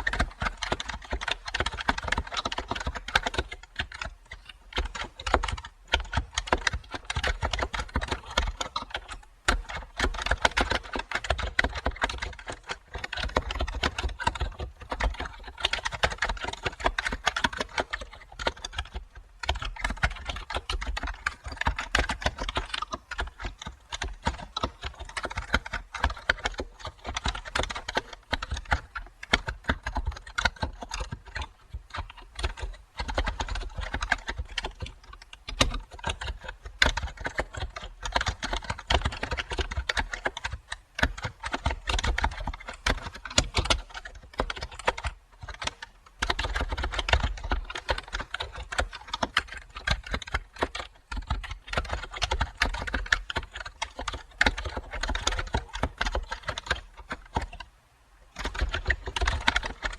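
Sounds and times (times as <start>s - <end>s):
keyboard typing clicks: 0.0s - 57.7s, 58.3s - 59.9s.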